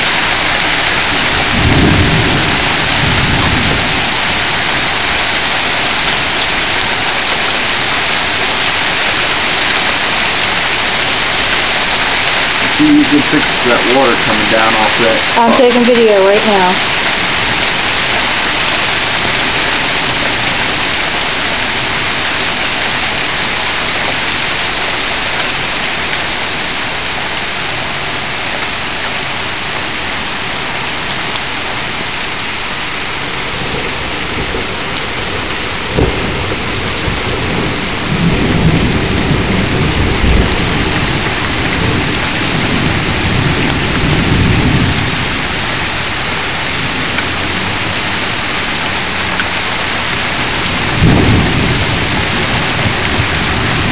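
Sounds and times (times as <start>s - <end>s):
thunder crack and rumbling: 0.0s - 26.6s, 33.2s - 53.9s
heavy rain hissing: 0.0s - 53.9s
runoff pouring over roof edge: 0.0s - 53.9s.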